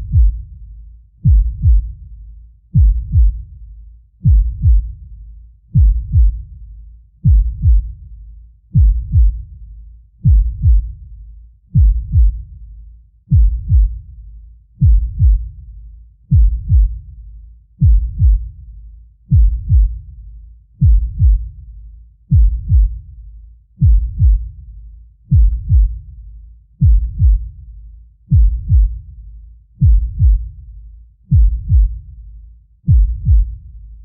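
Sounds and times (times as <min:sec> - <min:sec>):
deep heartbeat: 0:00.0 - 0:34.0.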